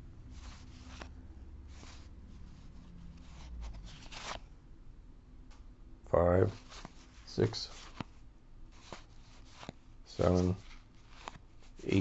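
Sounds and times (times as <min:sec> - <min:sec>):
low room hum: 0:00.0 - 0:12.0
baseball cards rustling: 0:00.3 - 0:04.5, 0:06.4 - 0:12.0.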